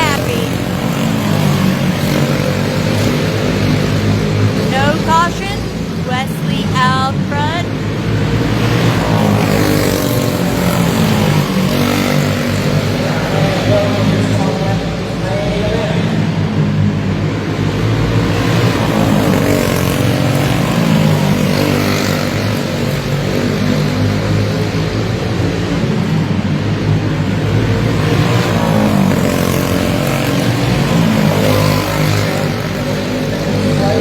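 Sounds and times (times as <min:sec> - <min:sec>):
racing kart engines: 0:00.0 - 0:34.0.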